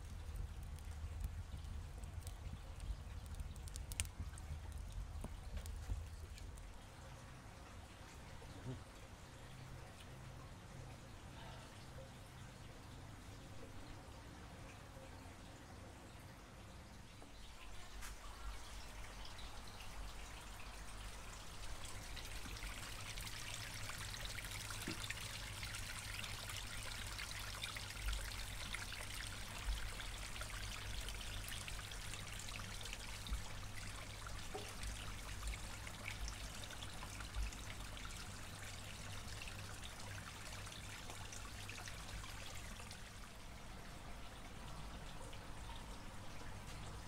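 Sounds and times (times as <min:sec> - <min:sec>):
water trickling over rocks: 0:00.0 - 0:47.0.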